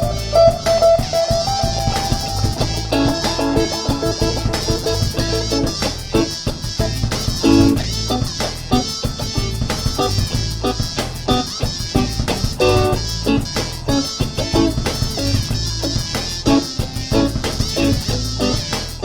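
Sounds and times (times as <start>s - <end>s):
low bass line: 0.0s - 19.0s
plucked notes: 0.0s - 19.0s
steady drum beat: 0.0s - 19.0s.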